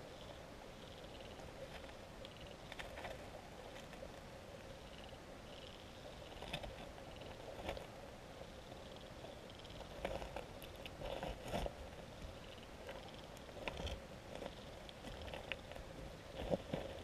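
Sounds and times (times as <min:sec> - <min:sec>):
underwater hum and hiss: 0:00.0 - 0:17.0
soft clicks and crackles: 0:00.1 - 0:17.0.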